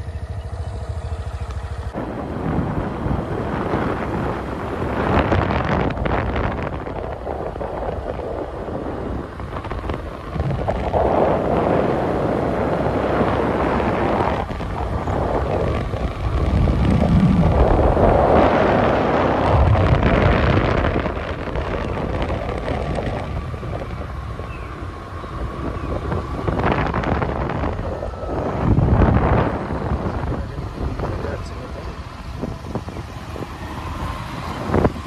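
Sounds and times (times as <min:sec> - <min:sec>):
road noise: 0:00.0 - 0:35.0
scooter engine running: 0:00.0 - 0:35.0
wind buffeting microphone: 0:00.0 - 0:35.0.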